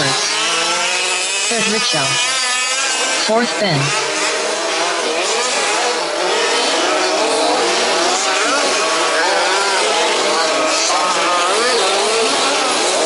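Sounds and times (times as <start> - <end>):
rc car engines revving: 0.0 - 13.0.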